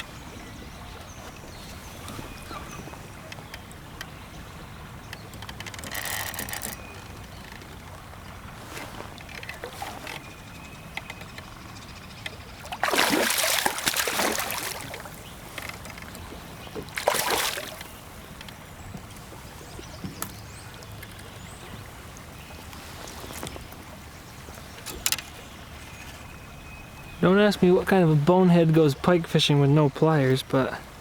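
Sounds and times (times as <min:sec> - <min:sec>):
river water washing: 0:00.0 - 0:31.0
water splashing beside kayak: 0:00.0 - 0:31.0.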